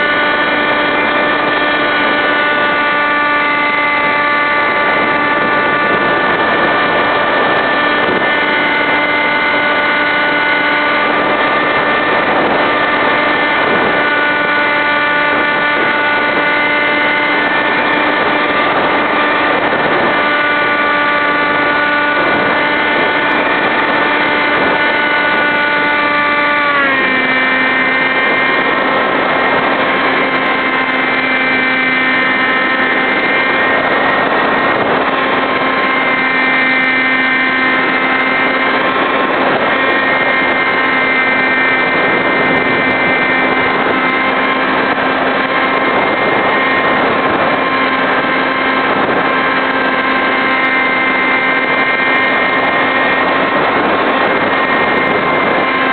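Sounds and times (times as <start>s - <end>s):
model plane motor whine: 0.0s - 55.9s.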